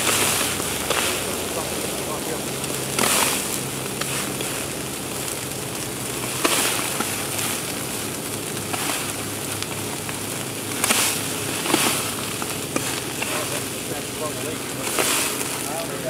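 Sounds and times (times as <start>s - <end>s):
fire burning and crackling: 0.0s - 16.0s
low steady hum: 0.0s - 16.0s.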